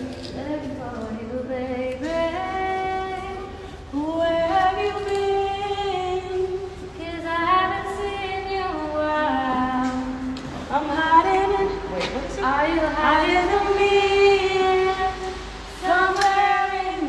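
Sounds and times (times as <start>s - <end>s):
women singing unaccompanied: 0.0s - 17.0s.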